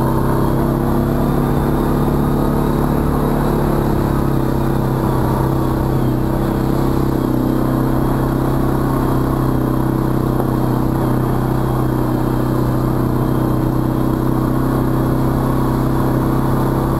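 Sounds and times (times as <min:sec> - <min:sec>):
atv engine running: 0:00.0 - 0:16.9.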